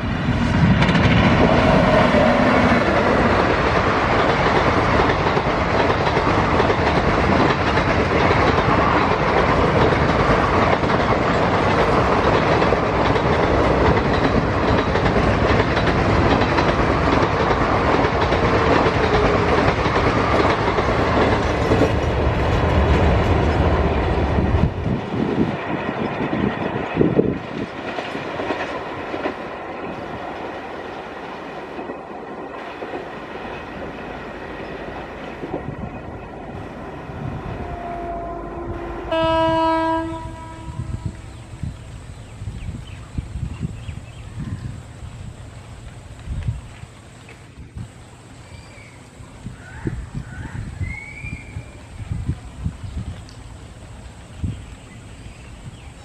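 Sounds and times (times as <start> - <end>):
train crossing iron bridge: 0.0 - 56.0.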